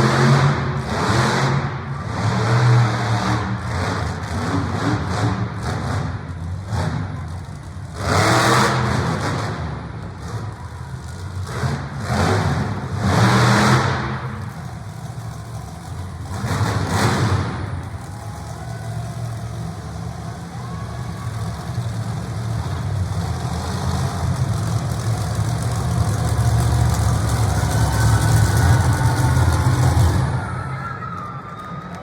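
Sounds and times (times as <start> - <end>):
monster truck engine revving: 0.0 - 31.9.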